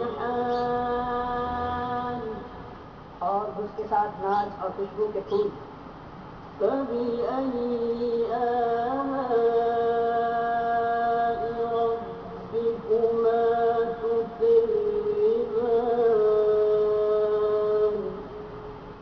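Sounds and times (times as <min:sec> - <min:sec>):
person chanting recitation: 0:00.0 - 0:05.6, 0:06.6 - 0:18.4.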